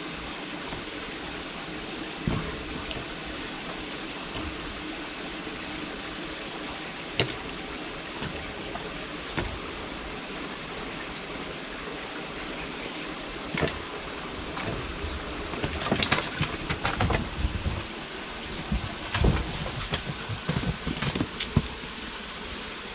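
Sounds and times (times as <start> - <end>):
steady background hiss: 0.0 - 22.9.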